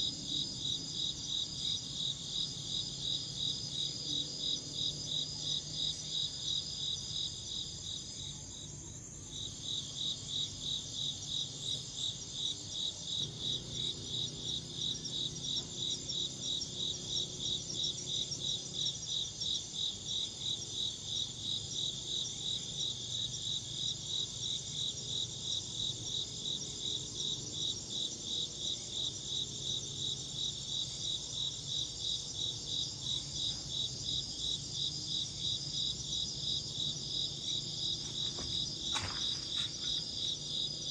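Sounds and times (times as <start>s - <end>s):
high insect trill: 0.0s - 40.9s
insect chirping rhythmically: 0.0s - 40.9s.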